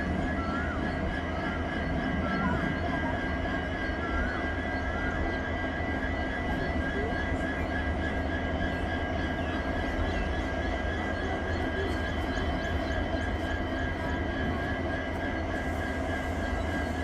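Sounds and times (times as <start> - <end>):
diesel locomotives idling: 0.0 - 17.0.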